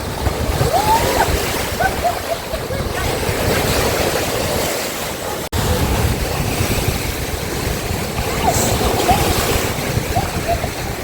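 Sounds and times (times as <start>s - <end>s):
jet ski engine and water rush: 0.0s - 11.0s.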